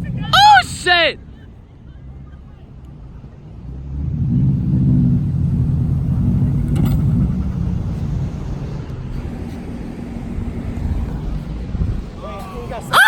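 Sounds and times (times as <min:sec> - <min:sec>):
car engine straining: 0:00.0 - 0:13.0.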